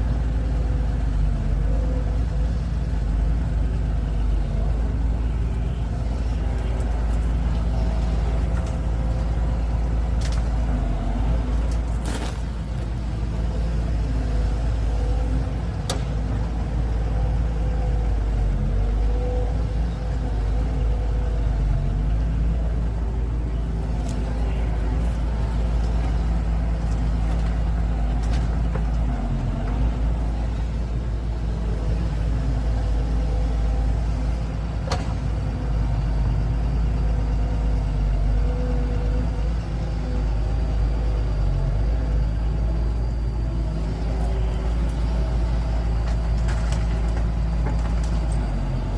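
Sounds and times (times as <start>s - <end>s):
heavy vehicle engines running: 0.0s - 48.9s.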